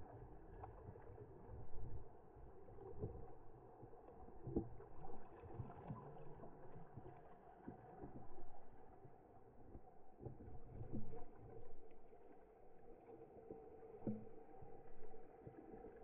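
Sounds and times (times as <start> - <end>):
muffled water sloshing: 0.0 - 16.0.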